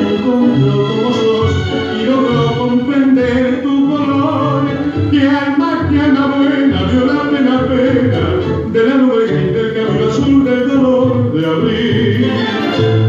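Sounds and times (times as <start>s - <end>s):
person singing: 0.0s - 13.0s
tango music over loudspeakers: 0.0s - 13.0s.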